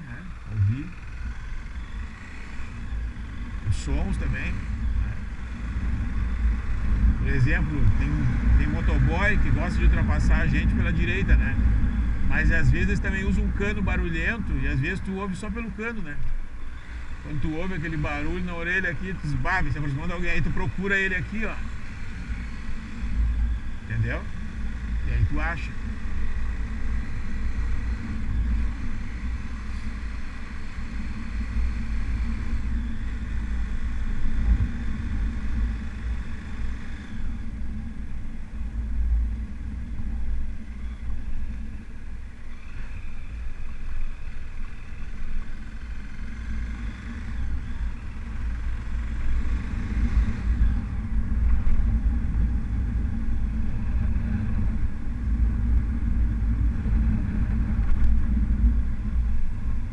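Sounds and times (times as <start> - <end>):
motorcycle engine revving: 0.0 - 59.9
wind rumble on microphone: 0.0 - 59.9.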